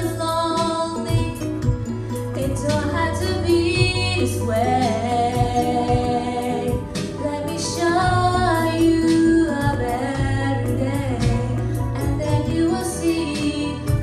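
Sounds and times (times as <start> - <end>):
instrumental backing: 0.0 - 14.0
women singing: 0.0 - 14.0.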